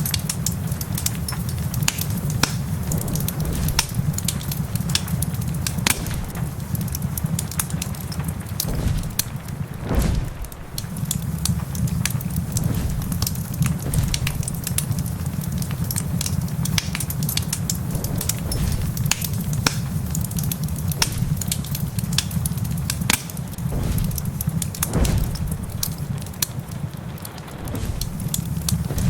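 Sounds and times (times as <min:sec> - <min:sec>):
low rumble of fire: 0:00.0 - 0:29.0
wood fire crackling and popping: 0:00.0 - 0:29.0.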